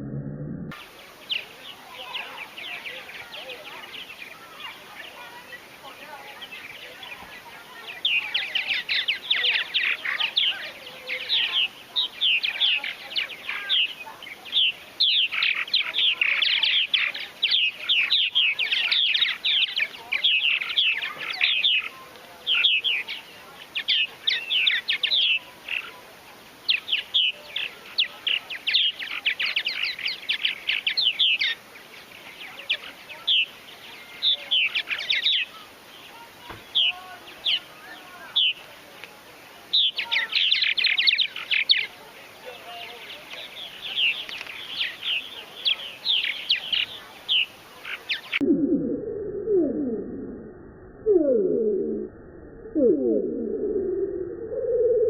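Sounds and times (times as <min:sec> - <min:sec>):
birds chirping and warbling: 0:00.7 - 0:49.0.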